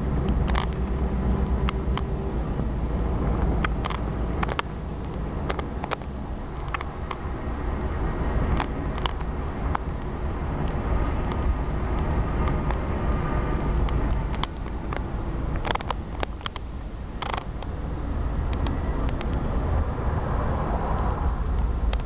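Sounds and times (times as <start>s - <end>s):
vehicle road and engine rumble: 0.0s - 22.0s.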